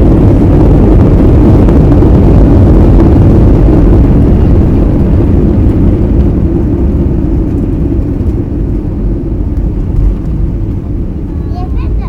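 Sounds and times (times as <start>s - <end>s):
jet engine roar: 0.0s - 12.0s
wheel rumble on runway: 0.0s - 12.0s.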